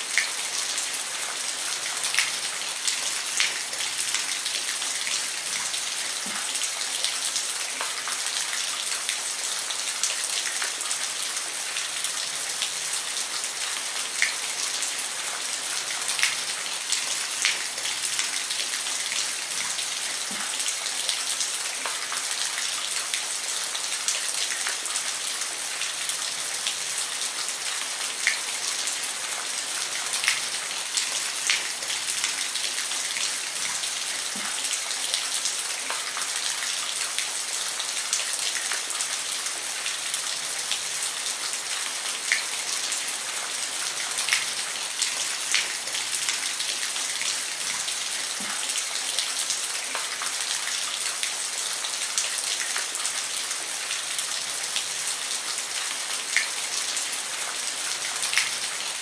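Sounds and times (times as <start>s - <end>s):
rain falling on a roof: 0.0s - 59.0s.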